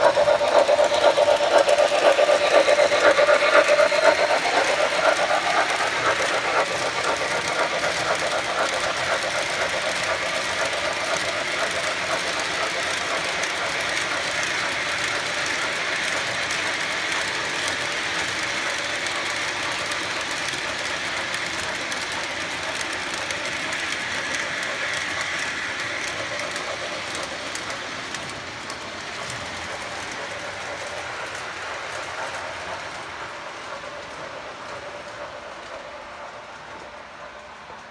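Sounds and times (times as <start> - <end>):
model train rolling on track: 0.0 - 37.9.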